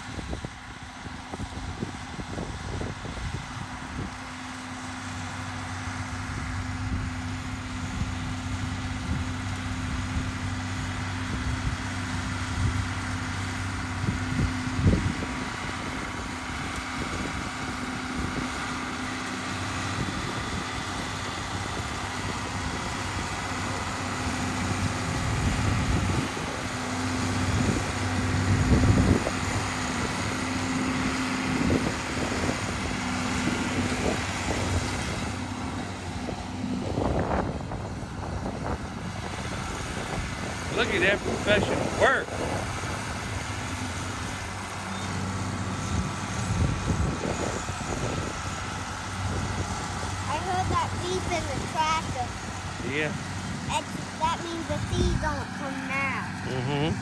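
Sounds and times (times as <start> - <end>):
tractor engine humming: 0.6 - 57.0.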